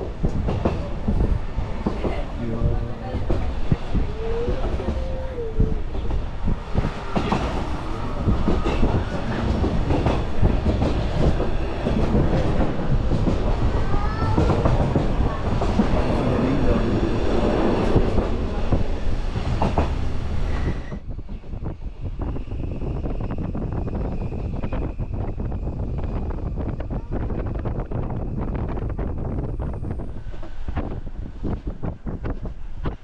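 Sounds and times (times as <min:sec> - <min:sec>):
train wheels clattering on rails: 0:00.0 - 0:02.4, 0:03.0 - 0:28.9.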